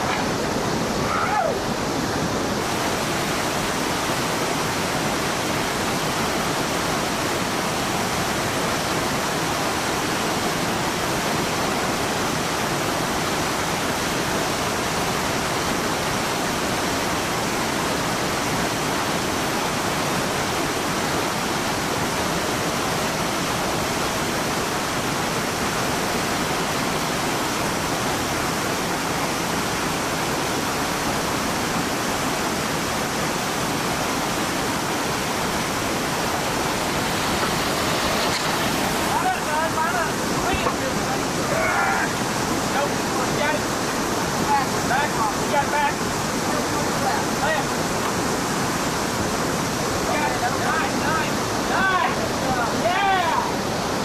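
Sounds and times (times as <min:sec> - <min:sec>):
rush of whitewater: 0:00.0 - 0:54.0.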